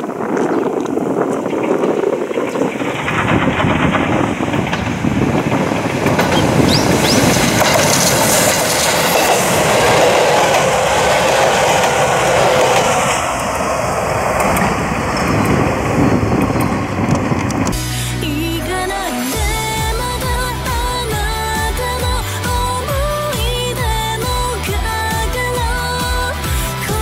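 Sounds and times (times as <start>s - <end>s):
train wheels rumbling on rails: 0.0s - 17.9s, 19.3s - 27.0s.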